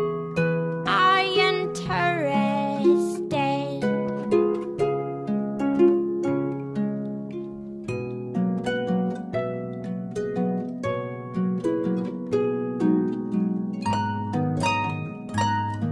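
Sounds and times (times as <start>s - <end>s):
plucked string melody with bass: 0.0s - 15.9s.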